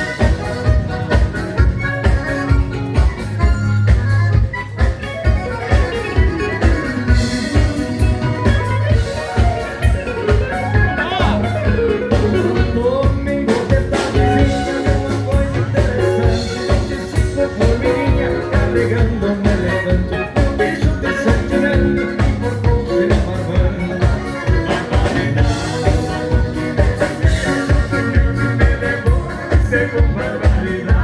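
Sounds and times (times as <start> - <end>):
dance band playing: 0.0 - 31.0
strong bass line: 0.0 - 31.0.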